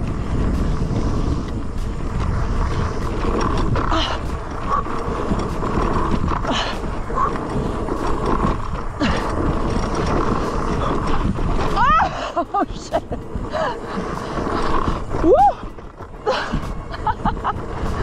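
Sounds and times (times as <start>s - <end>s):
bike knocking and rattling: 0.0s - 18.0s
bike tyres rumbling on dirt: 0.0s - 18.0s
wind rushing over microphone: 0.0s - 18.0s.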